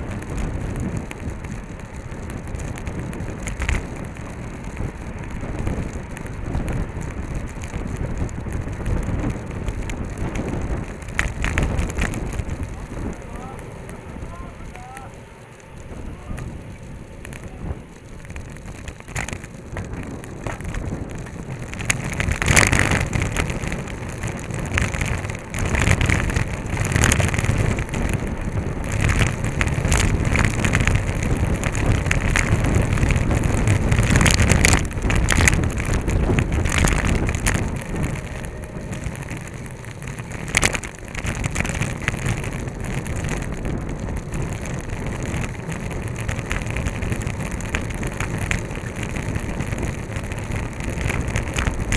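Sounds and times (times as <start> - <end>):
tyres rumbling on asphalt: 0.0 - 51.9
wind buffeting microphone: 0.0 - 51.9.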